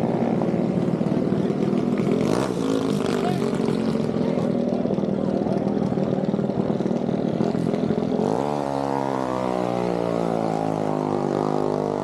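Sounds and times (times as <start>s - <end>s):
mini bike engine revving: 0.0s - 12.0s.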